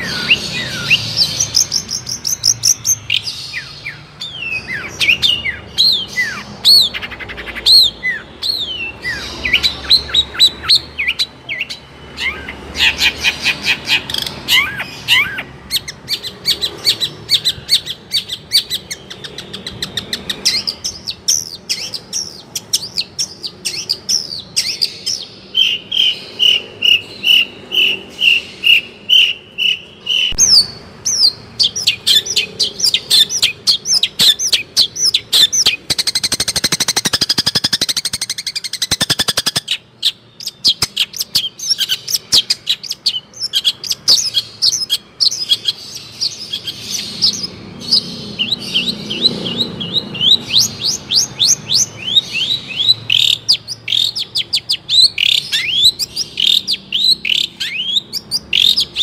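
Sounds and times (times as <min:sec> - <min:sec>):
shrike singing: 0:00.0 - 0:59.0.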